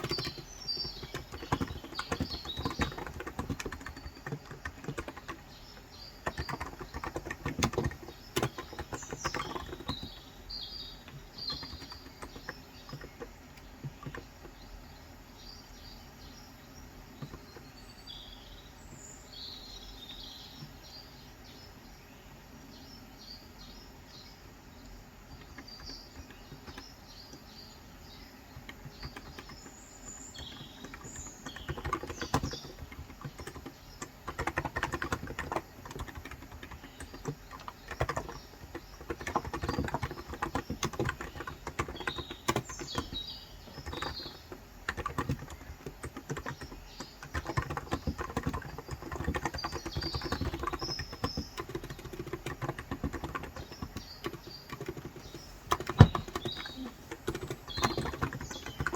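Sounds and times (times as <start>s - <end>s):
typing on keyboard: 0.0s - 14.6s, 17.1s - 17.7s, 25.3s - 27.6s, 28.5s - 58.9s
small birds chirping: 0.0s - 58.9s.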